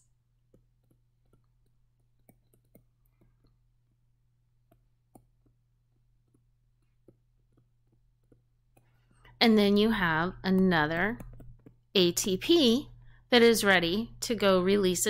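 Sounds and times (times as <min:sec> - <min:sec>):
stylus tapping on tablet screen: 0:00.0 - 0:12.5.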